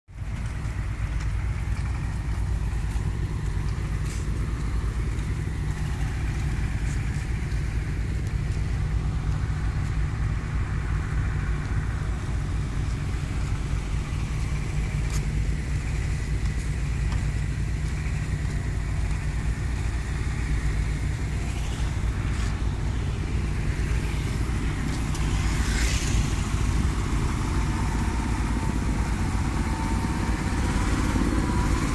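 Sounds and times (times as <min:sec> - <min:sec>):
engines idling rumble: 0:00.1 - 0:31.9.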